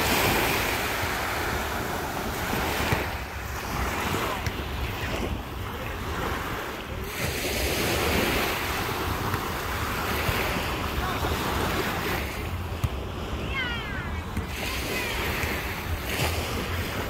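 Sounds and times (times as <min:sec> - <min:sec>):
small waves breaking on shore: 0:00.0 - 0:17.0.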